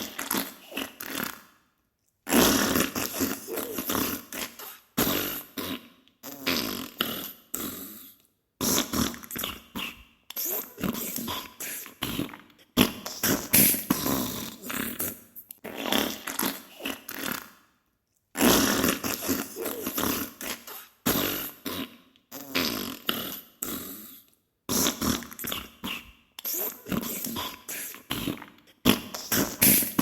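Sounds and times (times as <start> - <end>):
wet sputtering fart noises: 0.0 - 1.5, 2.3 - 7.9, 8.6 - 17.6, 18.4 - 23.5, 24.7 - 30.0.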